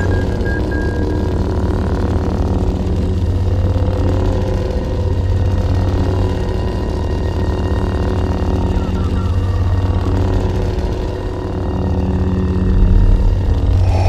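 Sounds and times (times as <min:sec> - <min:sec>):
low buzzing drone: 0:00.0 - 0:14.0.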